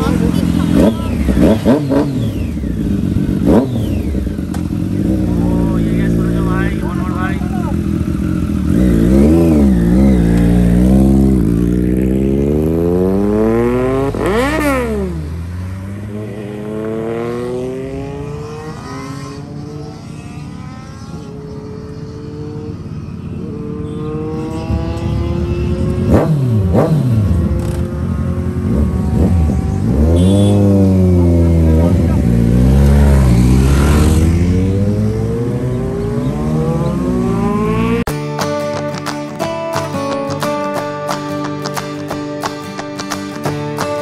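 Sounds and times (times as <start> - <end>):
motorcycle pulling away: 0.0 - 40.6
motorcycle engine revving: 0.0 - 44.0.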